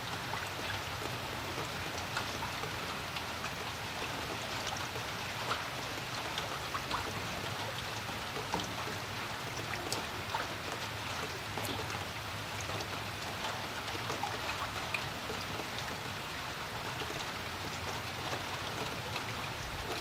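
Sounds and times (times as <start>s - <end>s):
flowing creek water: 0.0s - 20.0s
raindrops tapping and plinking: 0.0s - 20.0s.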